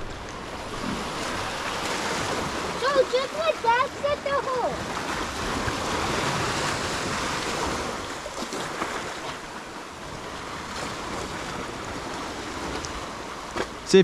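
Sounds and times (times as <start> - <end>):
ocean surf breaking on shore: 0.0 - 14.0.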